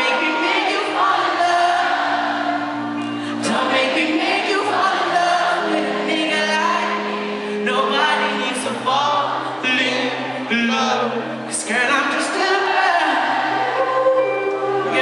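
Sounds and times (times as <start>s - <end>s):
band playing low chords: 0.0s - 15.0s
man singing: 0.0s - 15.0s.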